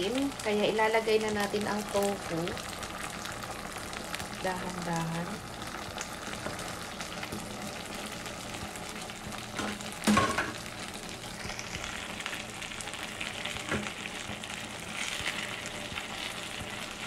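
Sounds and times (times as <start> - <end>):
sauce sizzling and bubbling: 0.0 - 17.0.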